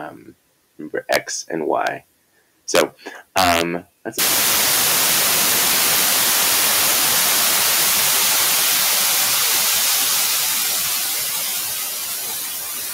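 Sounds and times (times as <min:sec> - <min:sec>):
microphone static hiss: 0:00.0 - 0:12.9.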